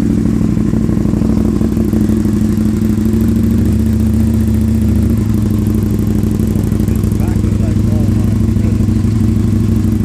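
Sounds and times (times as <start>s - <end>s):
motorcycle engine idling loudly: 0.0s - 10.0s.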